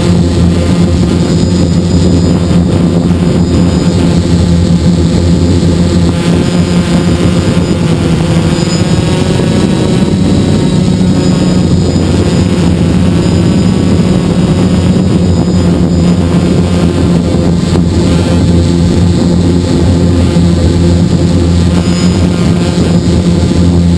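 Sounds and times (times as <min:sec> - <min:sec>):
drone motors and propellers humming: 0:00.0 - 0:23.9.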